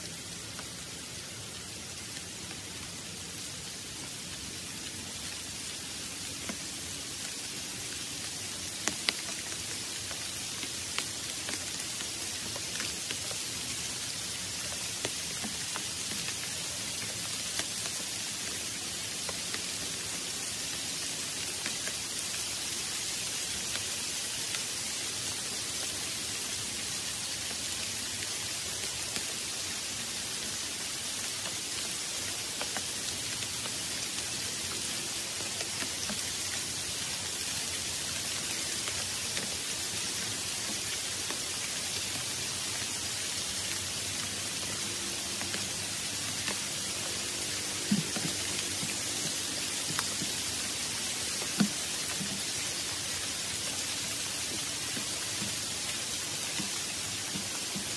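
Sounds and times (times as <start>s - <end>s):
rain falling on foliage: 0.0s - 57.9s.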